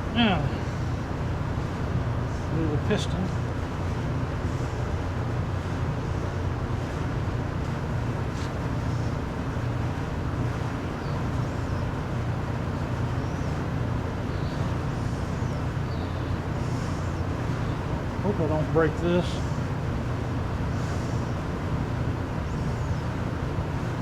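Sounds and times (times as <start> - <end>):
low droning background noise: 0.0 - 24.0.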